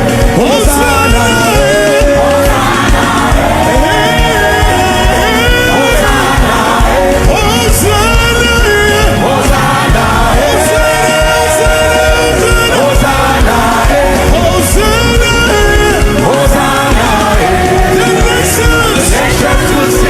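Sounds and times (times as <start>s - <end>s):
band playing: 0.0s - 20.0s
steady drum beat: 0.0s - 20.0s
worship team and congregation singing: 0.0s - 20.0s.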